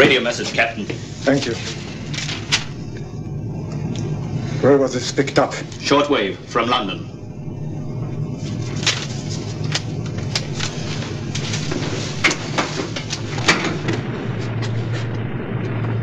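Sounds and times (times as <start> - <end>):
rushing noise: 0.0 - 16.0
steady low hum: 0.0 - 16.0.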